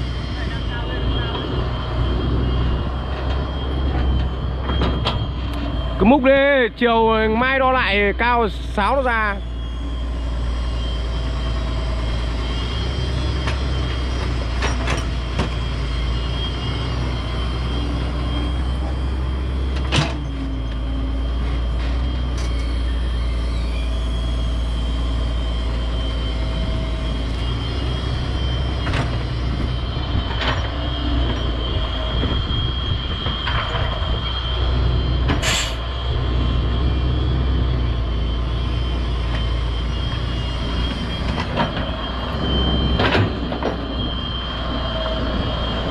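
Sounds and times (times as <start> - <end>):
excavator diesel engine droning: 0.0 - 45.9
faint high whine: 0.0 - 45.9.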